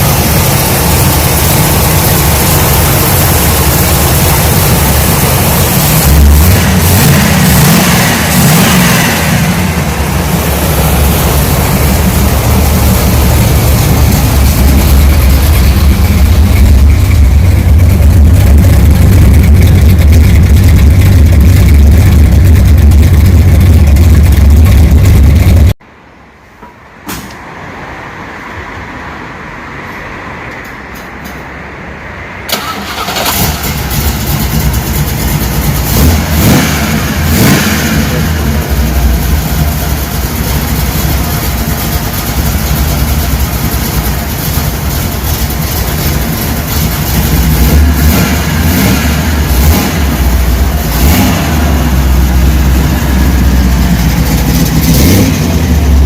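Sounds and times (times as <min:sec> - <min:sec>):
car engine deep rumble: 0:00.0 - 0:25.8, 0:32.4 - 0:56.0
quieter vehicle noise: 0:00.0 - 0:56.0.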